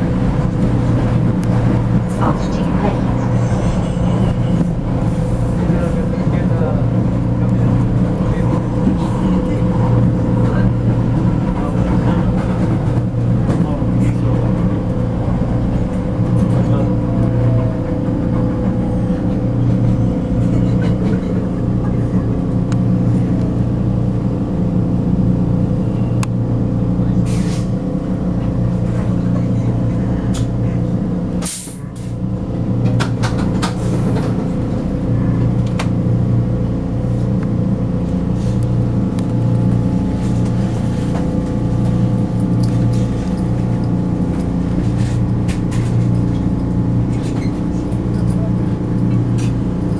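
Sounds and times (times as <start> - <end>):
metro train motor hum: 0.0 - 49.9.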